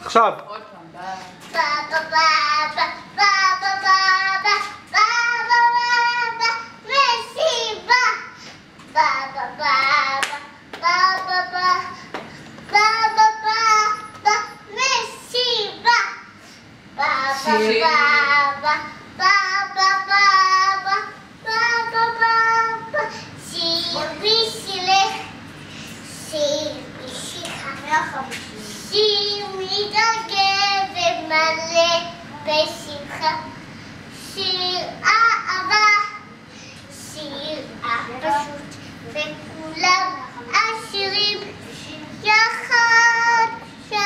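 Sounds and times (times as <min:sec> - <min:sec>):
girl singing: 0:01.4 - 0:08.4, 0:09.0 - 0:12.0, 0:12.7 - 0:16.4, 0:17.0 - 0:25.3, 0:26.2 - 0:33.6, 0:34.2 - 0:36.3, 0:37.0 - 0:44.0.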